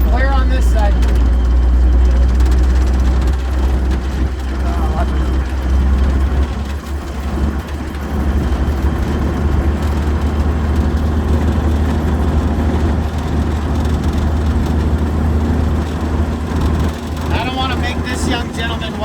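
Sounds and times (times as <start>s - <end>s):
deep engine rumble: 0.0s - 19.0s.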